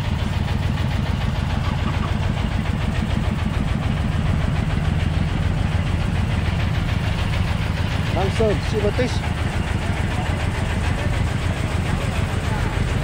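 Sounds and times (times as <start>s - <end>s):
construction machinery engine running: 0.0s - 13.0s.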